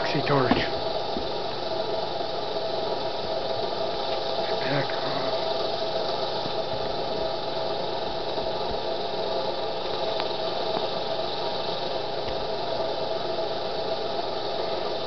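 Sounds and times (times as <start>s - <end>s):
alternator whirring: 0.0s - 15.0s.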